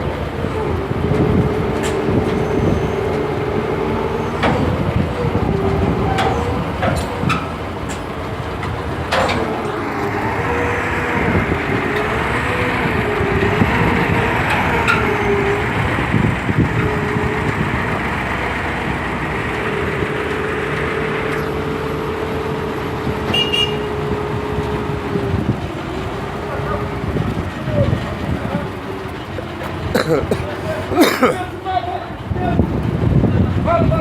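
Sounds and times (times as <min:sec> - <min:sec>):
engine whine: 0:00.0 - 0:34.0
heavy truck engine running: 0:00.0 - 0:34.0.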